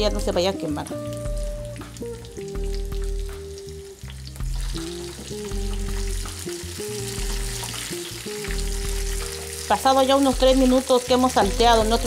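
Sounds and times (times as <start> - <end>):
oil sizzling in a frying pan: 0.0 - 12.0
soft background music: 0.0 - 12.0.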